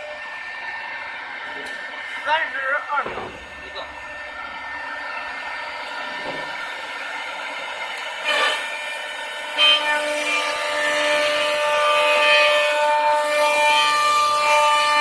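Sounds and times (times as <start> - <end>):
cnc machine whine: 0.0 - 15.0
wood cutting noise: 0.0 - 15.0.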